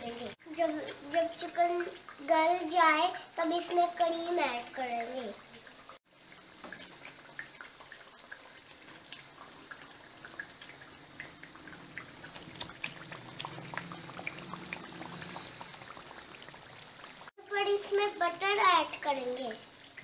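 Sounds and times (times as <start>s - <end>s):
curry sizzling and bubbling: 0.0s - 20.0s.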